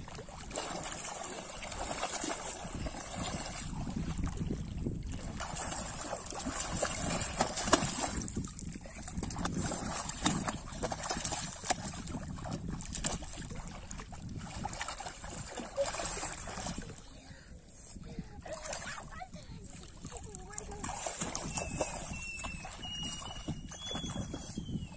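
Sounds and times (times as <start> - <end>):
shallow water splashing: 0.0 - 24.9.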